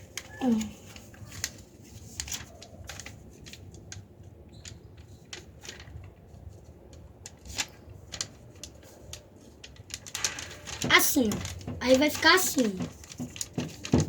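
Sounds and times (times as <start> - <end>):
paper being folded: 0.0 - 14.0.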